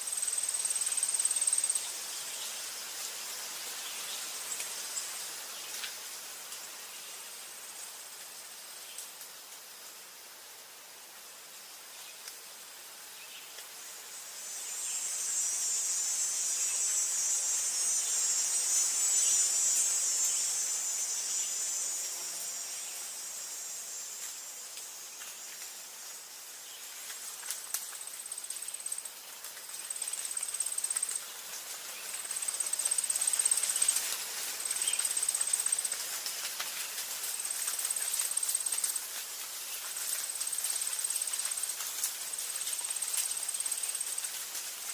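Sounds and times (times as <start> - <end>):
high shrill insect buzz: 0.0 - 5.8, 14.1 - 44.5
high insect trill: 0.0 - 10.3, 13.6 - 44.9.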